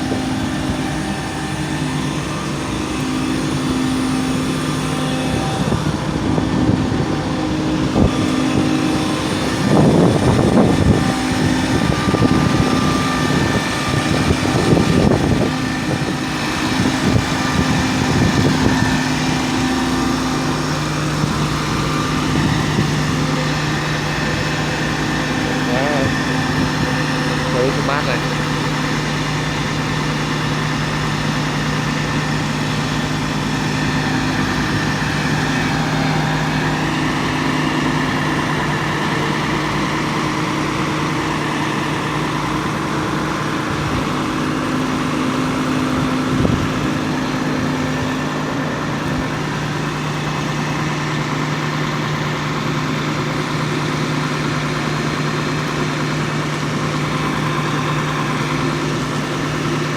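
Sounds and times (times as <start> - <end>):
fire truck engine idling: 0.0 - 59.9.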